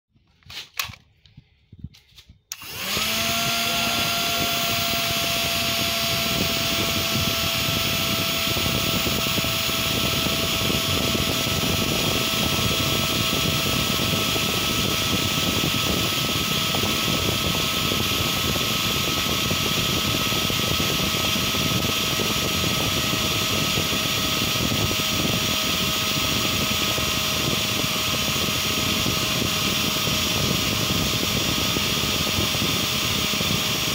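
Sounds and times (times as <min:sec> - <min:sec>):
small electric fan whirring: 0:00.2 - 0:33.9.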